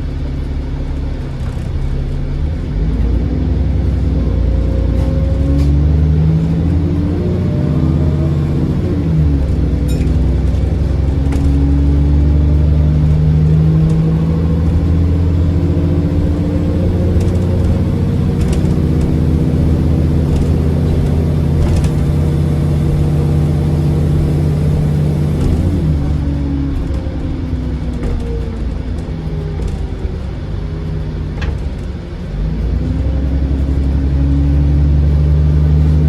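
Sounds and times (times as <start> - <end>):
bus diesel engine accelerating: 0.0 - 36.0.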